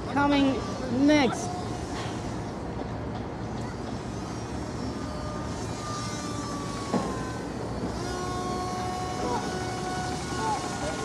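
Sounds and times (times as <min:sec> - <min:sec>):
model plane motor whine: 0:00.0 - 0:02.7, 0:03.6 - 0:11.0.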